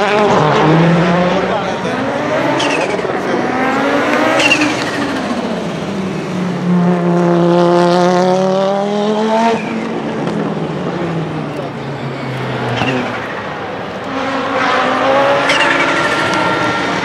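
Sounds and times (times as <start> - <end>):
car engine revving hard: 0.0 - 11.5, 12.4 - 17.0.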